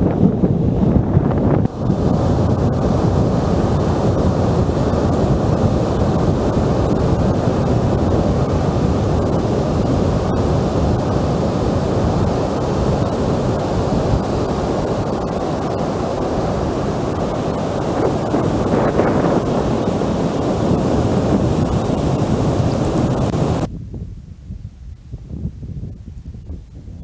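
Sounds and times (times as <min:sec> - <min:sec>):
surf breaking on beach: 0:00.0 - 0:23.7
wind blowing across microphone: 0:00.0 - 0:27.0.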